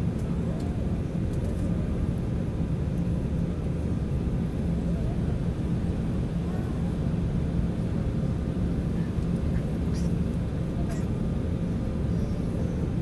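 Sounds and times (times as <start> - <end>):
jet engine rumble in cabin: 0.0 - 13.0.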